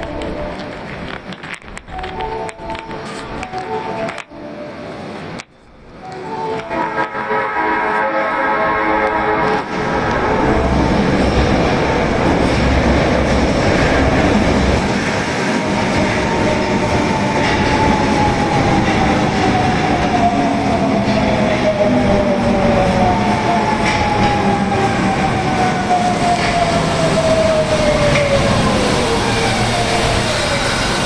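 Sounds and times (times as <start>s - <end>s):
subway train rumble and clatter: 0.0s - 31.0s.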